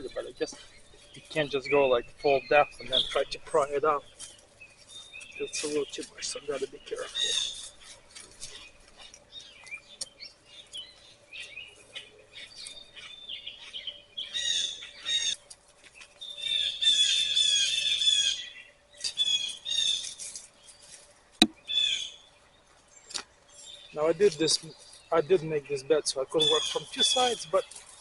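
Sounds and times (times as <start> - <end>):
songbirds chirping and singing: 0.0 - 28.0.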